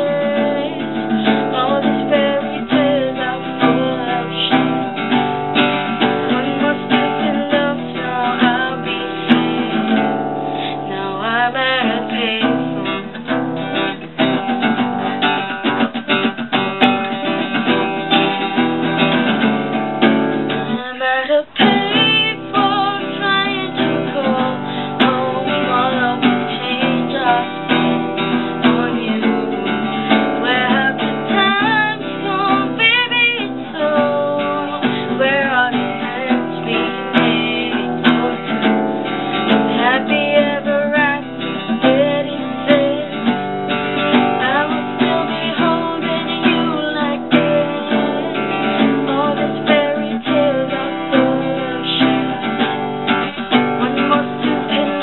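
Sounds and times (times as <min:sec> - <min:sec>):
strummed acoustic guitar: 0:00.0 - 0:55.0.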